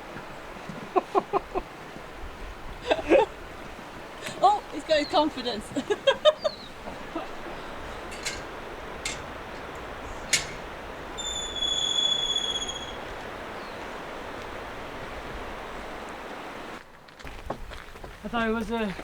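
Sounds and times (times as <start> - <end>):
river rushing: 0.0 - 17.1.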